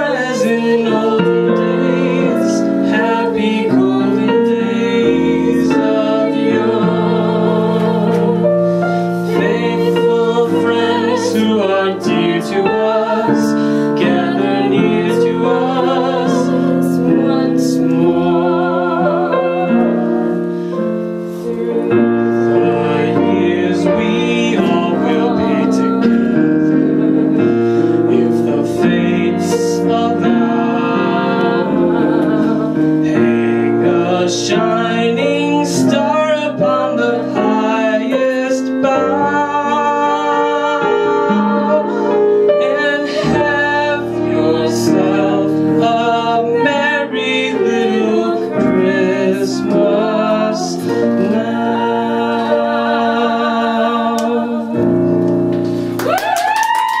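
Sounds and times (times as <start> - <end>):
person singing with vibrato: 0.0 - 54.8
electric piano chords: 0.0 - 56.2.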